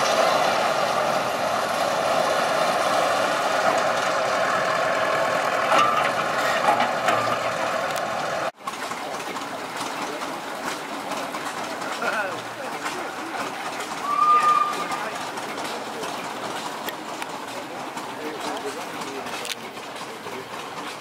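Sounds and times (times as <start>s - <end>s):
power shovel engine running: 0.0s - 21.0s.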